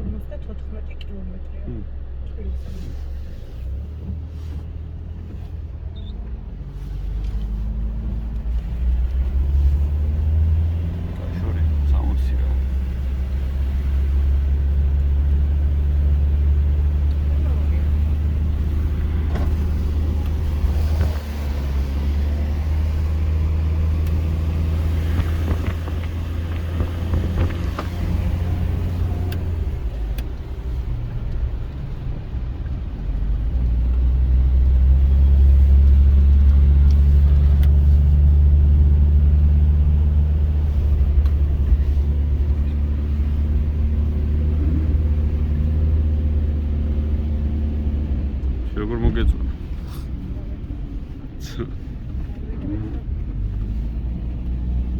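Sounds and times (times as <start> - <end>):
car engine drone: 0.0 - 54.9
road noise: 0.0 - 54.9.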